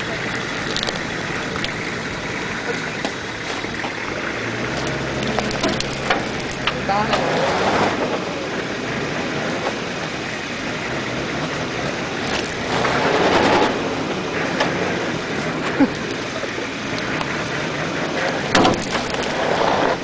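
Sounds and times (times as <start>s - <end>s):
off-road vehicle engine rumbling: 0.0s - 20.0s.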